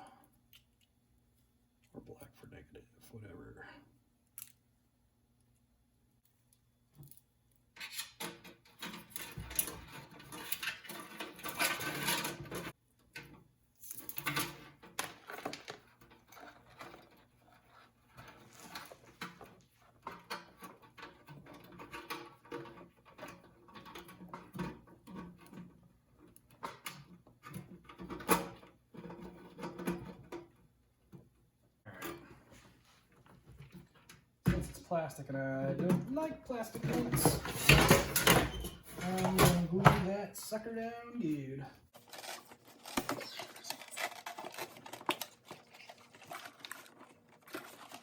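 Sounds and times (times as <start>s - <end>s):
rustling and scraping of parts: 6.2s - 35.0s, 35.8s - 40.6s, 41.9s - 48.0s.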